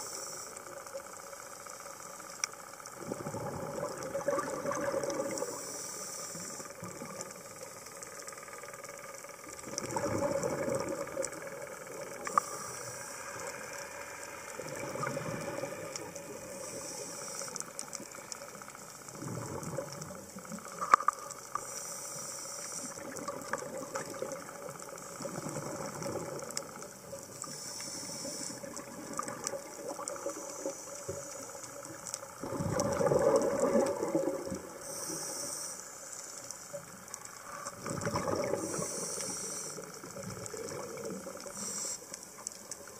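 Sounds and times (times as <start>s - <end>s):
regulator hiss: 0.0s - 3.1s, 5.3s - 9.6s, 11.0s - 19.2s, 20.2s - 32.4s, 34.6s - 37.8s, 38.4s - 42.9s
exhaled bubbles gurgling: 2.9s - 21.7s, 22.8s - 35.5s, 36.7s - 42.9s.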